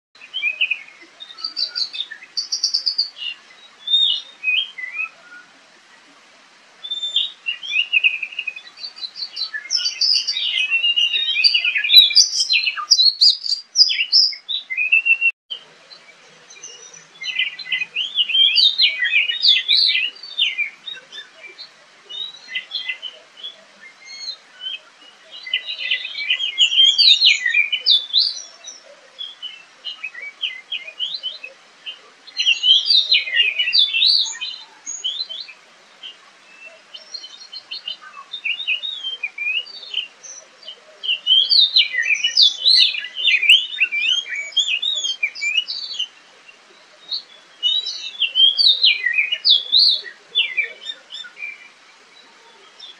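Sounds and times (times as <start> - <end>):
bird singing whistles and chatters: 6.8 - 15.3, 16.5 - 46.1, 47.0 - 51.8.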